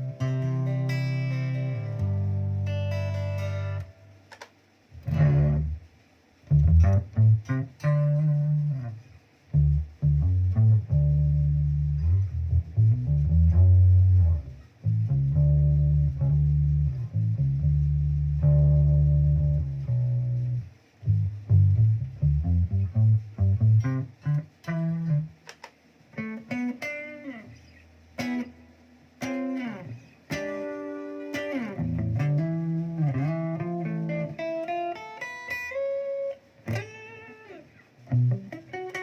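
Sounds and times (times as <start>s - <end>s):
electric guitar notes: 0.0s - 4.4s, 5.0s - 25.4s, 26.1s - 28.6s, 29.2s - 39.0s.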